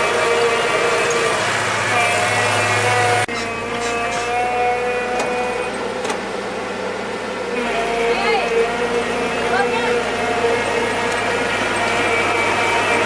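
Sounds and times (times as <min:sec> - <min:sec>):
motor running: 0:00.0 - 0:13.0.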